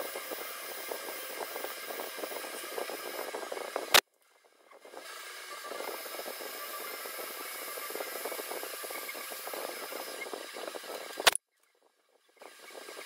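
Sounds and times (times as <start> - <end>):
drill bit cutting metal: 0.0 - 4.0, 4.8 - 11.4, 12.4 - 13.0
milling spindle whine: 0.0 - 13.0.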